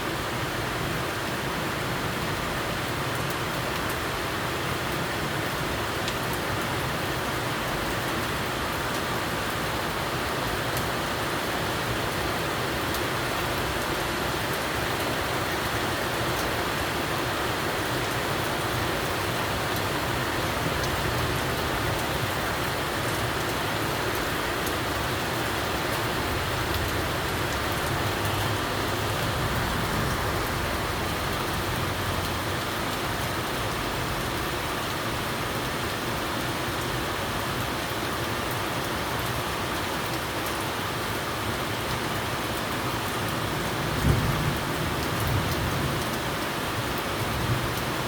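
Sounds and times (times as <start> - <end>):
steady rain hiss: 0.0 - 48.0.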